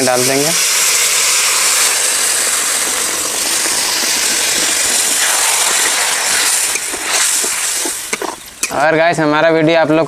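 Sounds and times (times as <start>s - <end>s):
water sizzling in hot pan: 0.0s - 9.0s.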